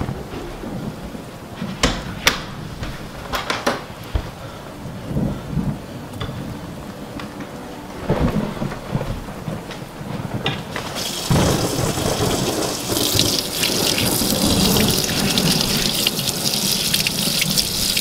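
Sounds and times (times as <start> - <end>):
steady rain: 0.0 - 18.0
thunder rumbles: 0.0 - 18.0.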